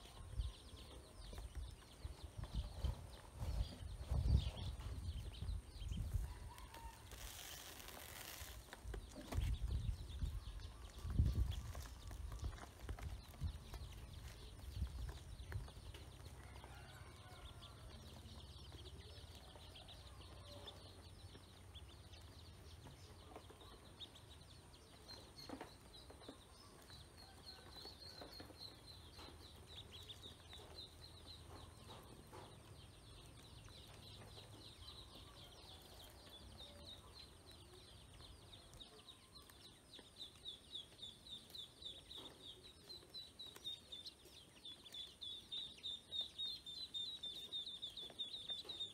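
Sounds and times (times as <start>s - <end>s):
ducklings peeping: 0.0s - 7.8s, 8.4s - 48.9s.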